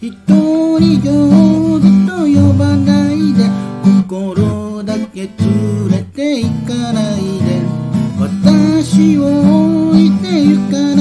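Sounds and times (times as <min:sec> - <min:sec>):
acoustic guitar strumming chords: 0:00.0 - 0:11.0
man singing: 0:00.0 - 0:11.0.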